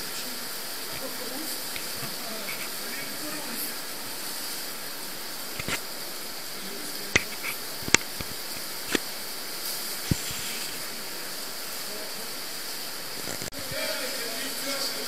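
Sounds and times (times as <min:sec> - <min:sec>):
underground river flowing: 0:00.0 - 0:15.0.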